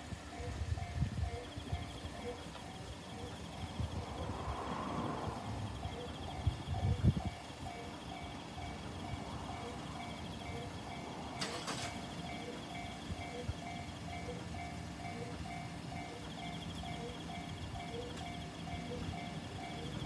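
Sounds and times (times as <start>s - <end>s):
railroad crossing warning bell: 0.0s - 20.0s.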